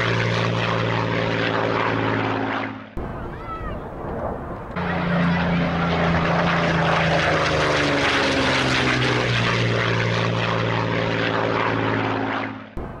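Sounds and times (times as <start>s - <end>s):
propeller aircraft engine: 0.0s - 13.0s.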